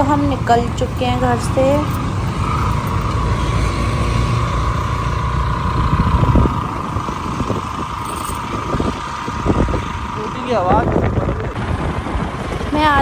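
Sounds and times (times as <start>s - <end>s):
road traffic rumble: 0.0s - 13.0s
steady high whine: 0.0s - 13.0s.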